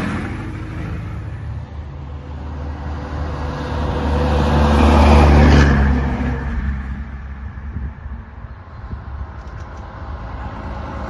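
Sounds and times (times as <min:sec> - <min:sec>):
diesel truck driving past: 0:00.0 - 0:11.0.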